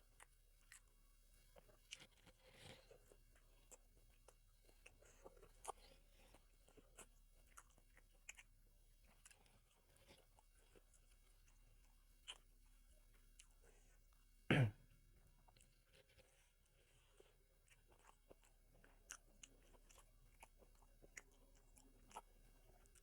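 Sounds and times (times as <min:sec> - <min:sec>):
chewing food: 0:00.0 - 0:14.4, 0:15.1 - 0:23.0.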